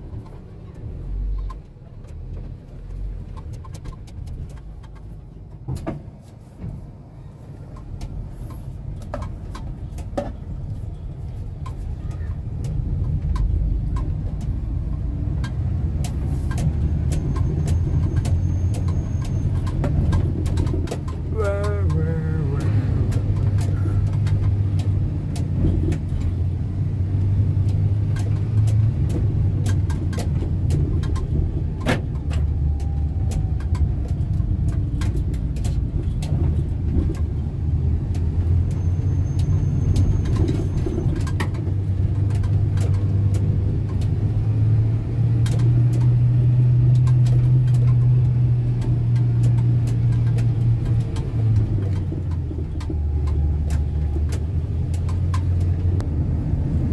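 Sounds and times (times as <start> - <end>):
cab rattles and ticks: 0.0 - 56.9
van engine drone: 0.0 - 56.9.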